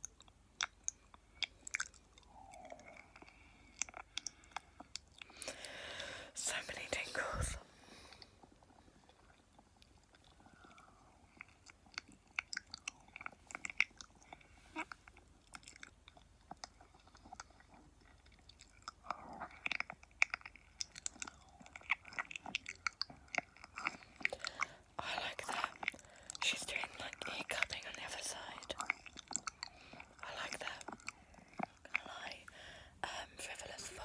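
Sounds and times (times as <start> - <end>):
wet mouth clicks and smacks: 0.0 - 5.8, 9.1 - 34.0.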